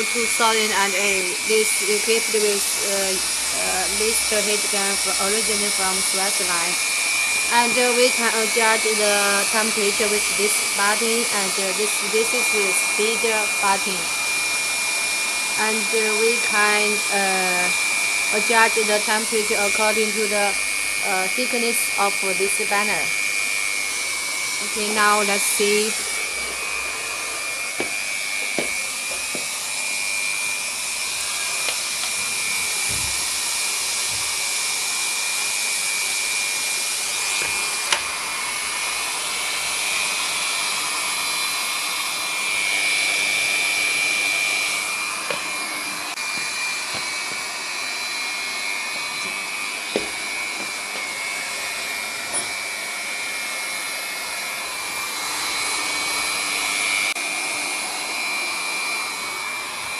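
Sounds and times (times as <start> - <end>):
hot-air gun blowing with whine: 0.0 - 59.9.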